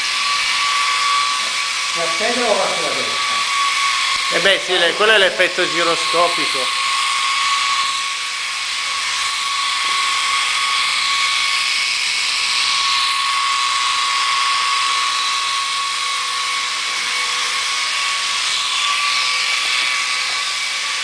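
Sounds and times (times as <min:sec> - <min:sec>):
toy helicopter rotors whirring: 0:00.0 - 0:21.0.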